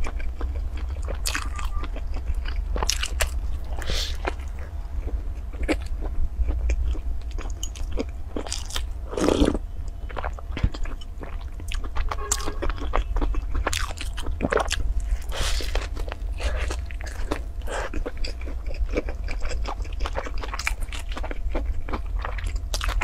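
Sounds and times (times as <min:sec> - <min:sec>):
person chewing crusty bread: 0:00.0 - 0:23.0.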